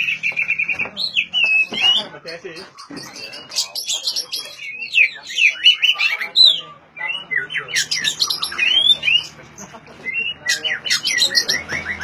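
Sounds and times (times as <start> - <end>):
bird singing whistled trills: 0.0 - 2.1, 2.8 - 9.4, 10.0 - 12.0.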